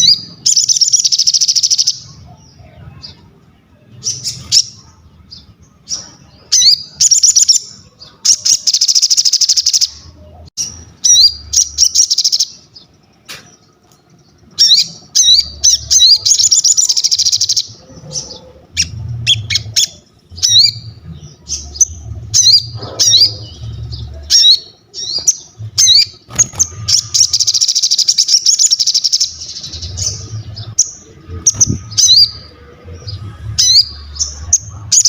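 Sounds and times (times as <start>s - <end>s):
songbird singing with trills: 0.0s - 35.0s.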